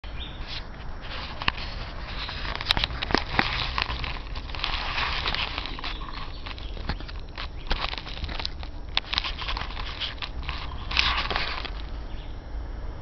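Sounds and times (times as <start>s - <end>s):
rustling against microphone: 0.0s - 12.2s.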